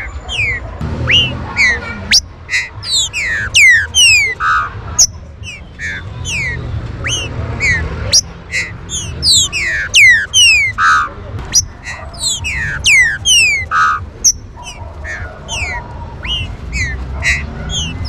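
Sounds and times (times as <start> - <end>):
bird singing whistled phrases: 0.0 - 18.0.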